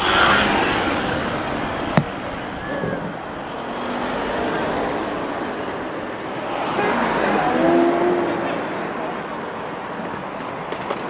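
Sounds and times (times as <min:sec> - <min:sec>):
car engines and road noise: 0:00.0 - 0:11.0.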